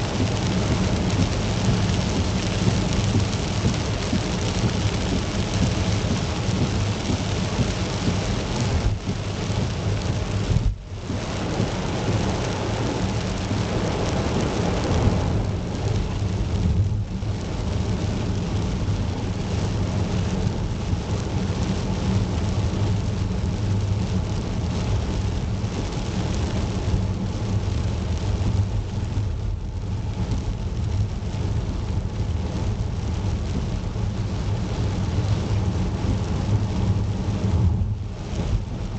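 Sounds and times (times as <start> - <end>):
deep constant rumble: 0.0 - 38.9
heavy rain falling: 0.0 - 38.9.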